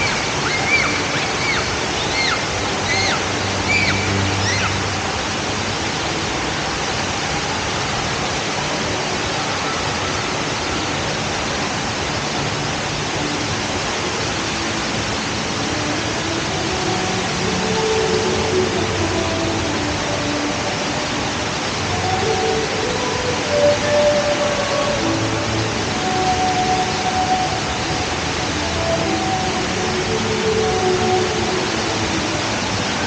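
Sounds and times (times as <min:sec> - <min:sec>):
indoor waterfall roaring: 0:00.0 - 0:33.0.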